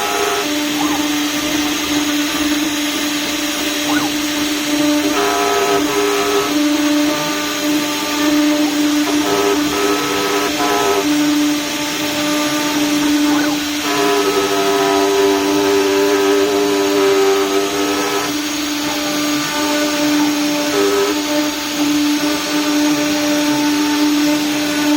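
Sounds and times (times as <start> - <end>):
cnc router motor whine: 0.0 - 24.9.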